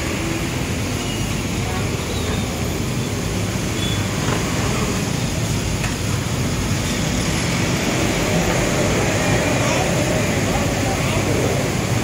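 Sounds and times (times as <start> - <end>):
motorbike traffic: 0.0 - 12.0
roaring background noise: 0.0 - 12.0.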